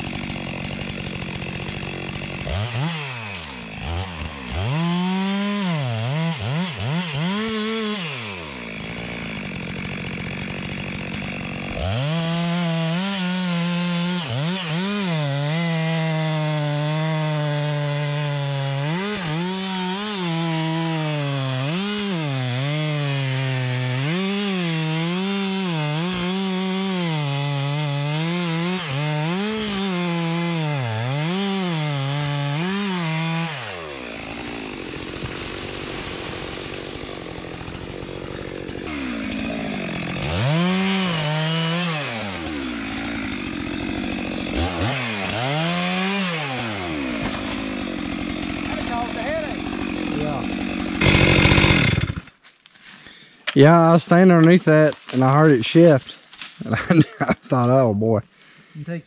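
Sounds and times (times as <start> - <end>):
chainsaw revving and idling: 0.0 - 52.5, 53.5 - 59.0
chainsaw cutting wood: 0.0 - 57.8.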